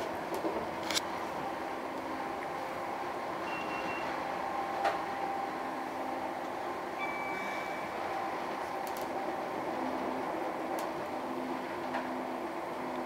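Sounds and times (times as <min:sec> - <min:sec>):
train interior rumble and hiss: 0:00.0 - 0:13.0.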